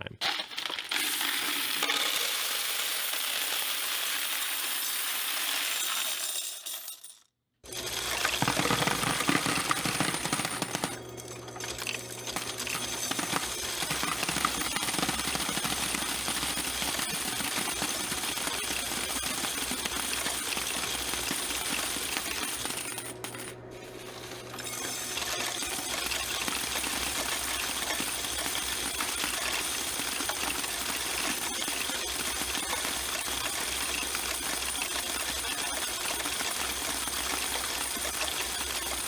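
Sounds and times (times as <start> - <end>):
coin counter clattering: 0.2 - 39.0.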